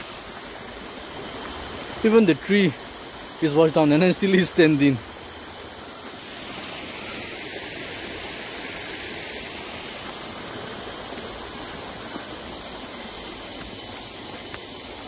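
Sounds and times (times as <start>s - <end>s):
stream of running water: 0.0s - 15.0s.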